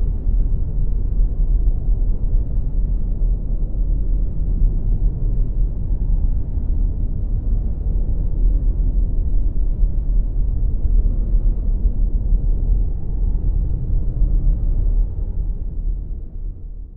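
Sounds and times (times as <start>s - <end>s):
deep rumbling ambient drone: 0.0s - 16.9s.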